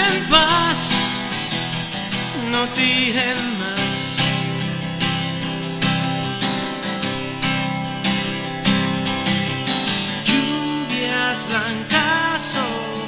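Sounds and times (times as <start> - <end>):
acoustic guitar strummed: 0.0 - 13.0.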